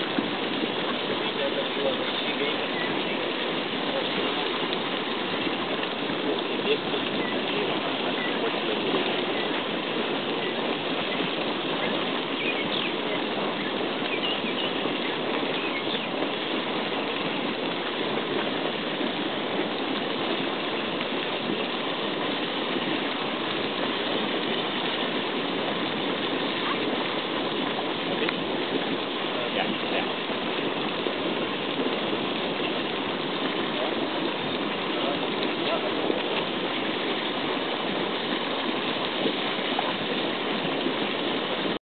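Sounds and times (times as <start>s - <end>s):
geyser water gushing: 0.0s - 41.8s.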